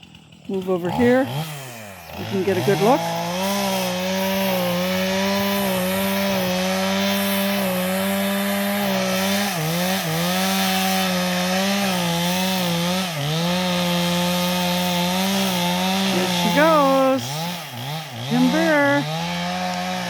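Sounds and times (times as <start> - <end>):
chainsaw cutting tree trunk: 0.0 - 20.0.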